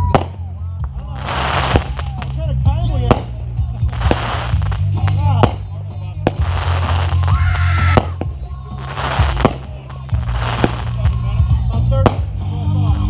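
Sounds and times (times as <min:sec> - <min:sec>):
fireworks bangs: 0:00.0 - 0:13.0
loud music with heavy bass: 0:01.2 - 0:13.0.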